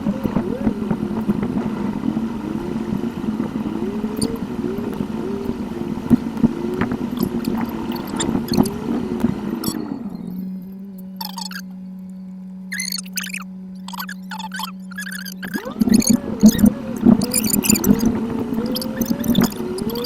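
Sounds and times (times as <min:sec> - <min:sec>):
sped-up engine and road drone: 0:00.0 - 0:20.0.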